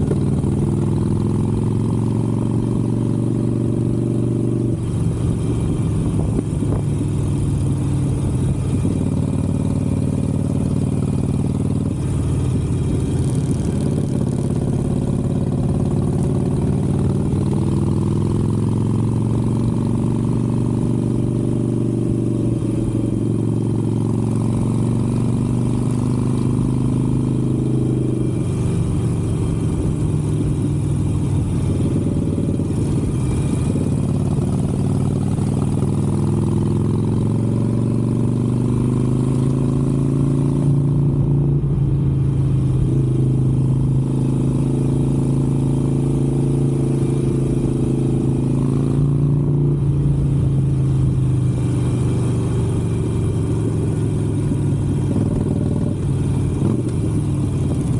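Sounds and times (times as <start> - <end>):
motorcycle engine cruising: 0.0 - 57.9.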